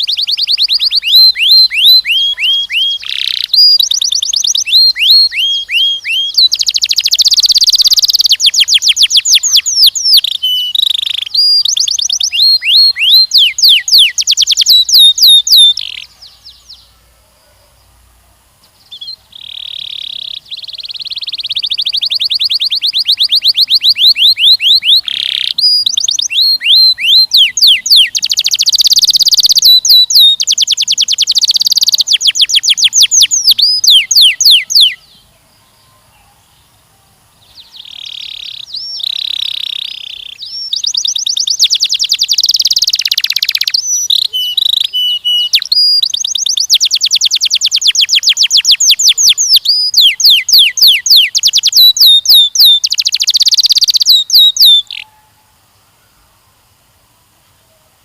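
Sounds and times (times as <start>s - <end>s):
canary singing rapid high chirps: 0.0s - 16.9s, 18.9s - 35.3s, 37.4s - 55.3s.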